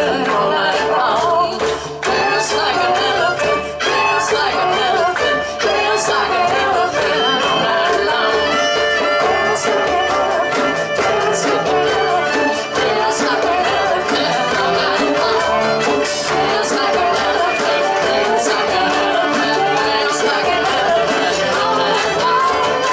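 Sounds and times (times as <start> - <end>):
acoustic guitar strumming: 0.0 - 22.9
cello: 0.0 - 22.9
djembe and drum kit beat: 0.0 - 22.9
fiddle melody: 0.0 - 22.9.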